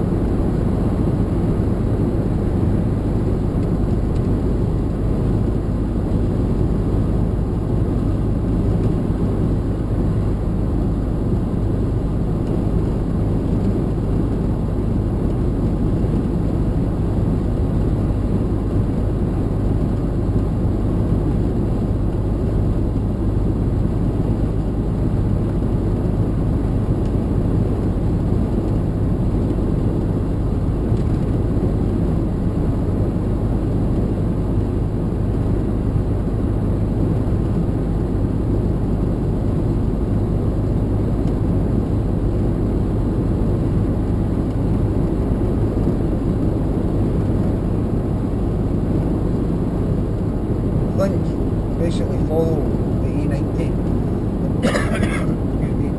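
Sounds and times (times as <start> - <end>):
lorry engine and road rumble: 0.0 - 55.9.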